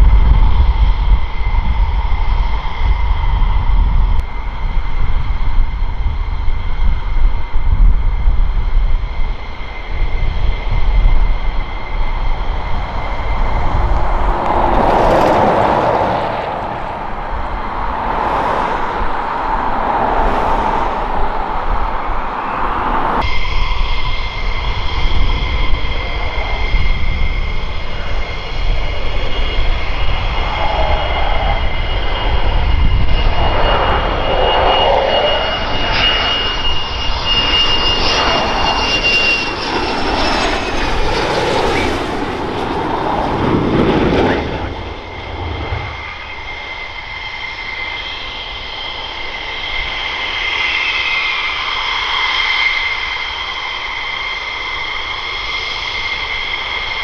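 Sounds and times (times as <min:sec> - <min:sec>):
jet engine whine and rumble: 0:00.0 - 0:57.0.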